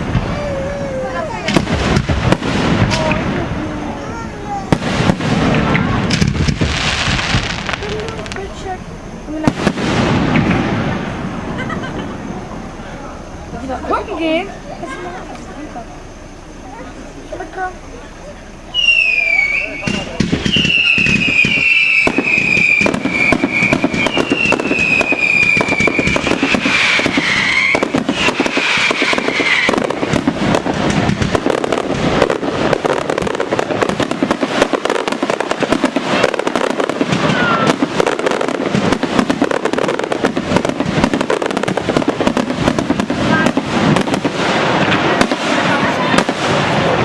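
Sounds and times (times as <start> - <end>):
fireworks crackling and banging: 0.0 - 47.0
whistling firework shells: 0.0 - 47.0.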